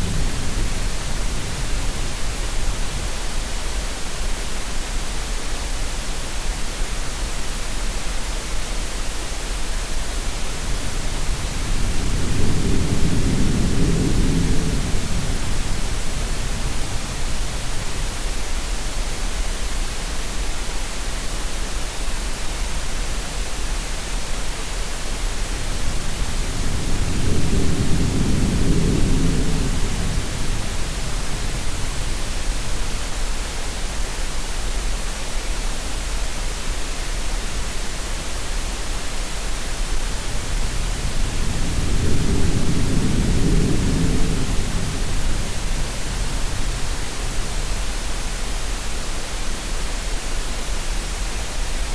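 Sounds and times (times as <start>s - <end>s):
green noise hiss: 0.0s - 51.9s.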